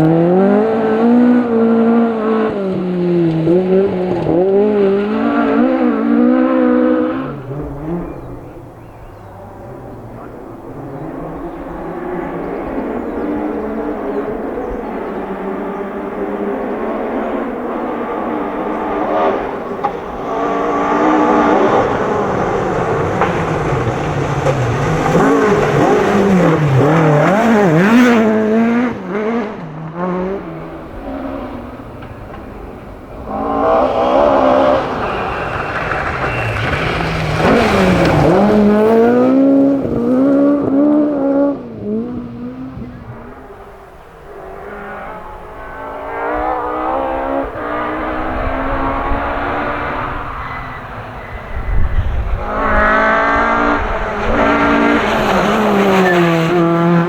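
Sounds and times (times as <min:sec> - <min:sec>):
rally cars driving past: 0:00.0 - 0:57.0.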